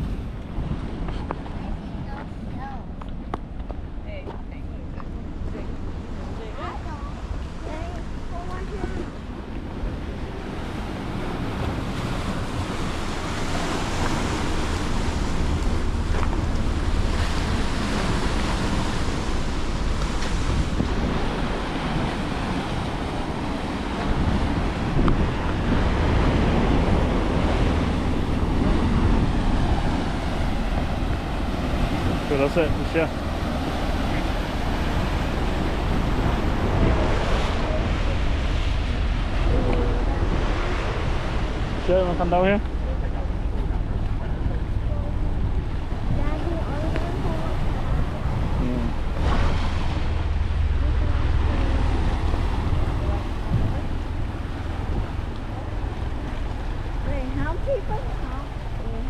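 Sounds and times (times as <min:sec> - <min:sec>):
surf washing against rocks: 0:00.0 - 0:59.0
wind buffeting microphone: 0:00.0 - 0:59.0.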